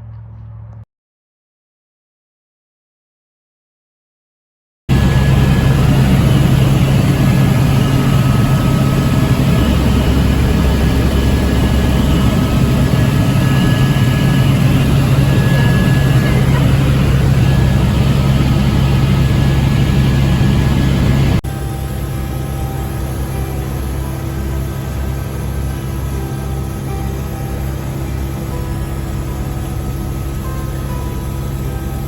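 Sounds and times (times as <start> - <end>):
helicopter drone: 4.9 - 32.0.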